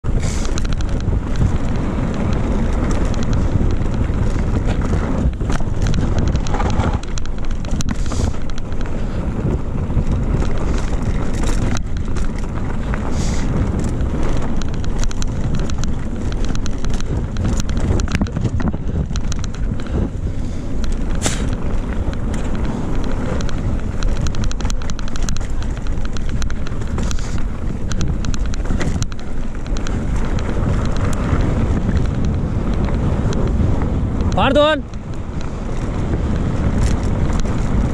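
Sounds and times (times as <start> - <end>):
bike tyres rumbling on gravel: 0.0 - 37.9
stones and bike rattling: 0.0 - 37.9
wind buffeting microphone: 0.0 - 37.9.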